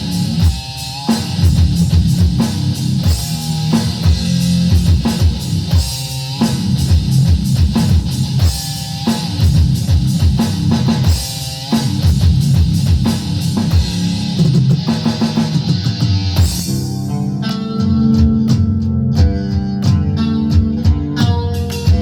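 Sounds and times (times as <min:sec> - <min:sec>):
drum kit with rapid bass drum: 0:00.0 - 0:22.0
electric guitar riff: 0:00.0 - 0:22.0.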